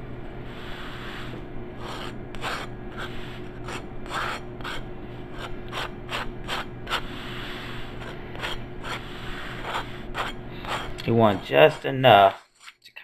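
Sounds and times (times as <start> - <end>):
knife scraping across bread crust: 0.5 - 4.8, 5.4 - 12.8.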